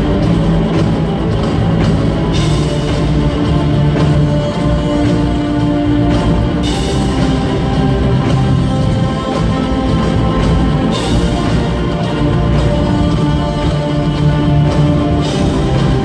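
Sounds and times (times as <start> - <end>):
orchestra and rock band playing: 0.0 - 16.0.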